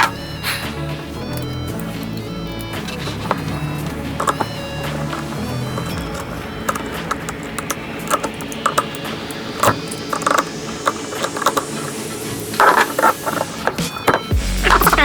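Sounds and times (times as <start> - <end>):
tools and bike parts clinking: 0.0 - 15.0.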